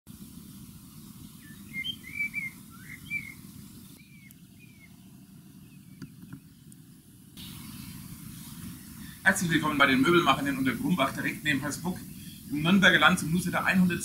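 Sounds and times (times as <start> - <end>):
low outdoor rumble: 0.1 - 14.0
songbird chirping: 0.7 - 14.0.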